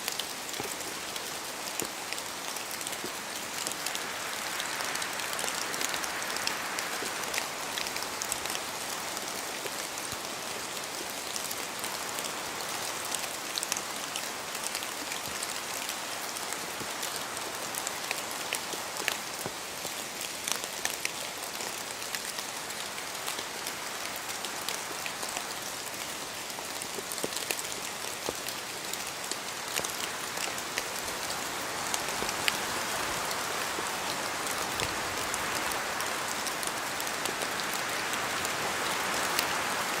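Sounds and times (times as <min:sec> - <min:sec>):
rain falling in a forest: 0:00.0 - 0:40.0
wind: 0:00.0 - 0:40.0.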